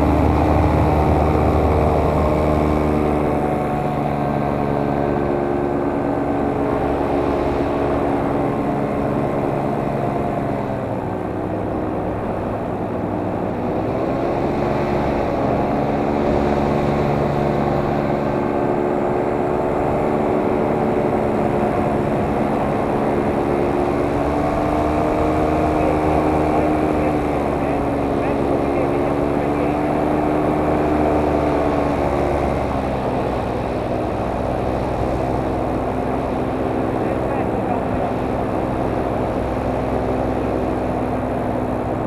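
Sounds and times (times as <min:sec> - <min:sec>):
drone propellers whining: 0:00.0 - 0:42.0.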